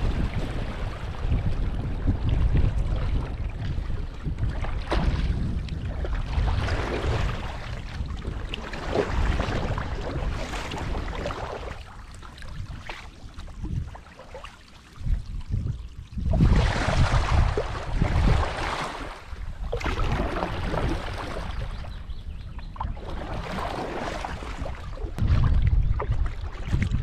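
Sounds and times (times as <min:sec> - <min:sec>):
paddle splashing in water: 0:00.0 - 0:27.0
wind buffeting microphone: 0:00.0 - 0:27.0.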